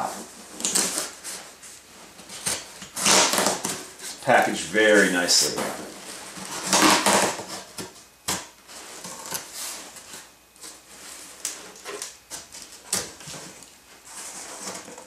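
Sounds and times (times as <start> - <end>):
cardboard flaps scraping: 0.0 - 15.0.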